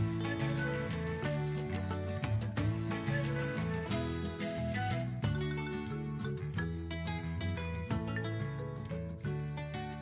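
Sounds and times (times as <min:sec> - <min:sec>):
plucked notes: 0:00.0 - 0:10.0.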